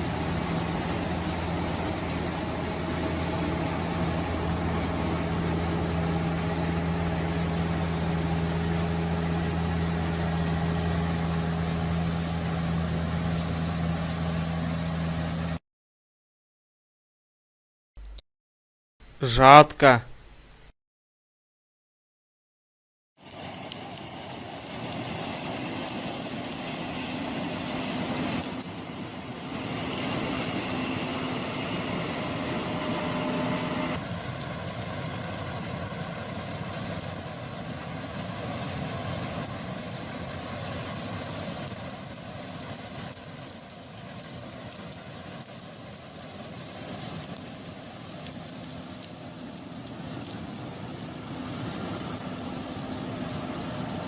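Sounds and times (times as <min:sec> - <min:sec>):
harvesting machine running: 0:00.0 - 0:15.6, 0:23.2 - 0:54.0.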